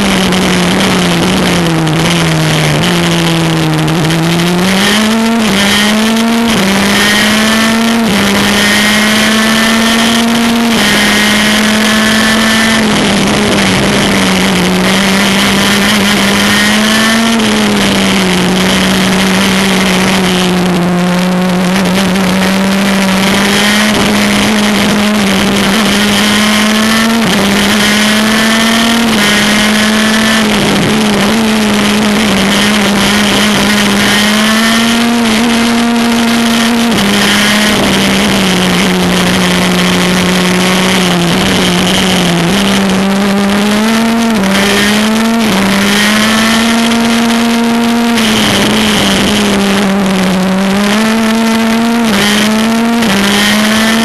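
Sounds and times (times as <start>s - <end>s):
kart engine revving high: 0.0s - 54.0s.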